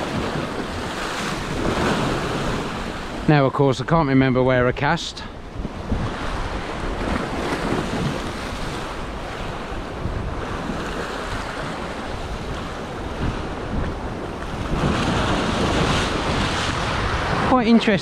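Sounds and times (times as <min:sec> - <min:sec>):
wind buffeting microphone: 0:00.0 - 0:03.3, 0:03.9 - 0:18.0
waves breaking against rocks: 0:00.0 - 0:18.0.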